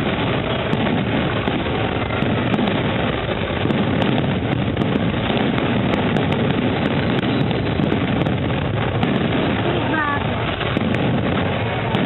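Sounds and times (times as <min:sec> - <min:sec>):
fireworks bangs and crackle: 0:00.0 - 0:12.0.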